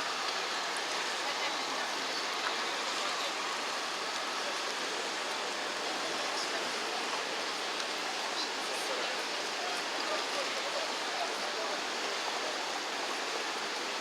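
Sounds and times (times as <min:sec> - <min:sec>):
outdoor riverside ambience: 0:00.0 - 0:14.0.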